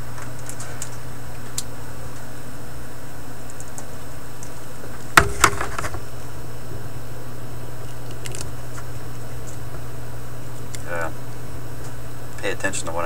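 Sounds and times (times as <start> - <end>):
record player hum: 0.0 - 13.0.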